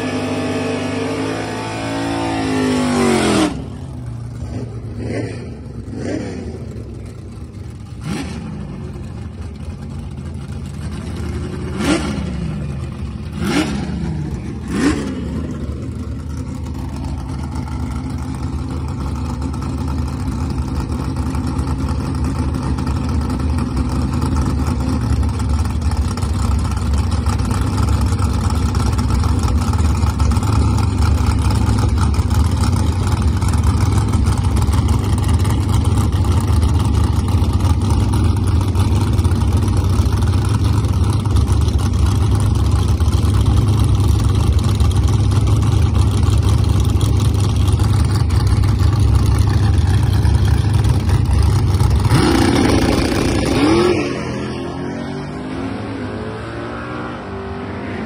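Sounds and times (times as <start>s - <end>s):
car engine idling: 2.7s - 53.9s.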